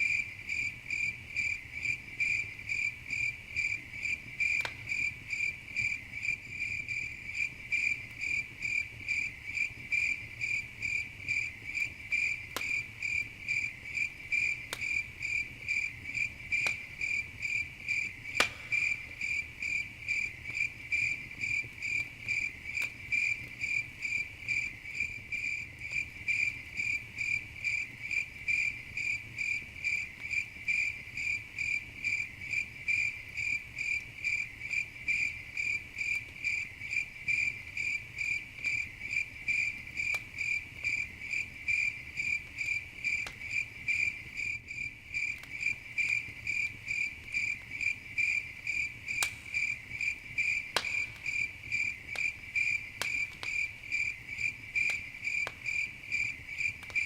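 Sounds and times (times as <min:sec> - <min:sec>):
campfire popping: 0:00.0 - 0:57.0
crickets chirping: 0:00.0 - 0:57.0.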